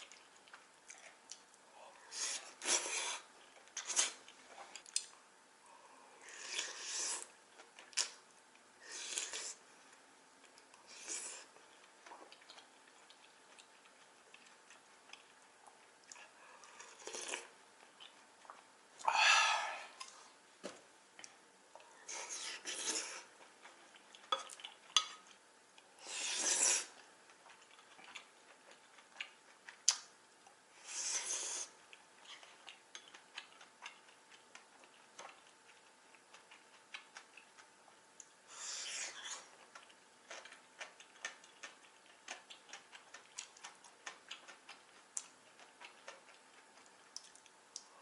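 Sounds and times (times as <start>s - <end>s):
noisy eating sounds: 0.0s - 48.0s.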